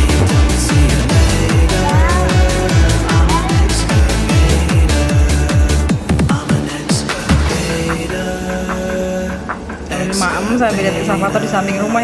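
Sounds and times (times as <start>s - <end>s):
heavy bass kick beat: 0.0s - 10.1s
electronic dance music: 0.0s - 12.0s.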